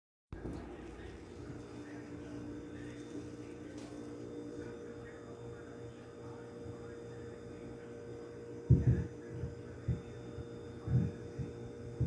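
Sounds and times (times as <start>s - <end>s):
faint steady tone: 0.4s - 12.0s
low hum: 0.4s - 12.0s.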